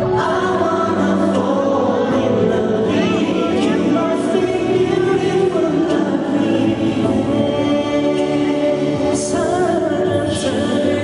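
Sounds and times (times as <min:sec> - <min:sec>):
live pop band: 0:00.0 - 0:11.0
man singing into a microphone: 0:00.0 - 0:11.0.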